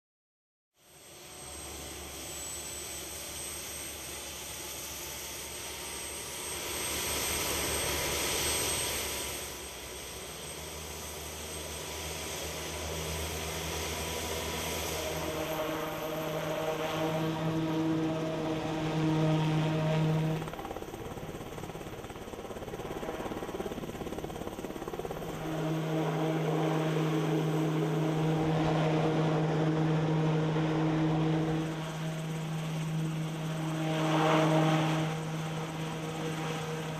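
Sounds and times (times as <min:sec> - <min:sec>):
helicopter rotor and engine: 0:00.8 - 0:36.9.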